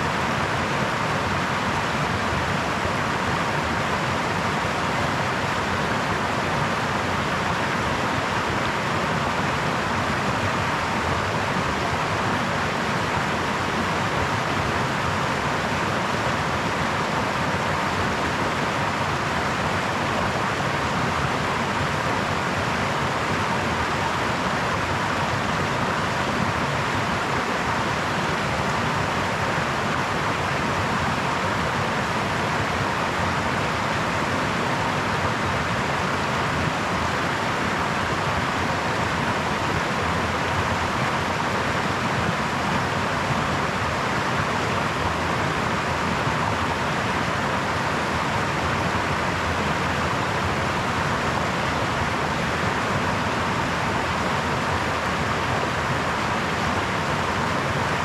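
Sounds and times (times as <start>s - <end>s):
brook flowing: 0.0s - 58.0s.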